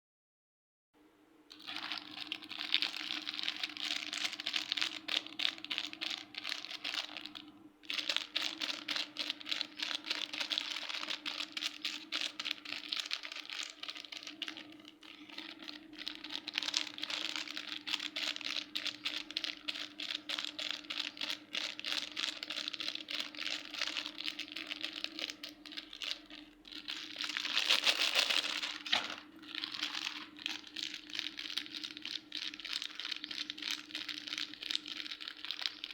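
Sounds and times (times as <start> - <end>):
faint steady hum: 1.0 - 35.9
slime crackling and popping: 1.5 - 35.9.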